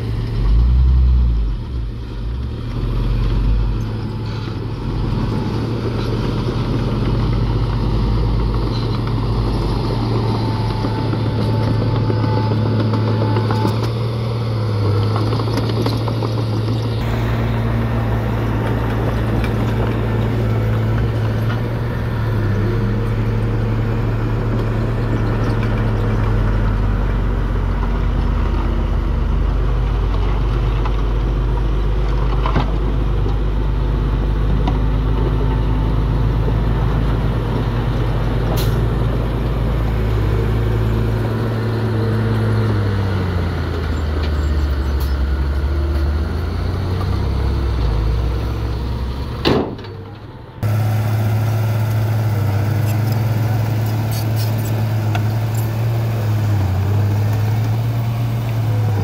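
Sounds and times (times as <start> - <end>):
bulldozer diesel engine running: 0.0 - 59.0
truck diesel engine under load: 0.0 - 59.0.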